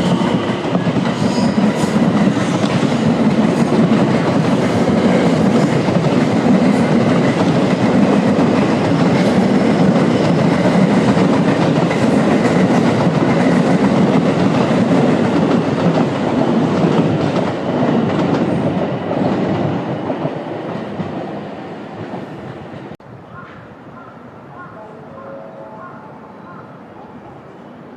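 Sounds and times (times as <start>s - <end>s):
train passing: 0.0s - 27.9s.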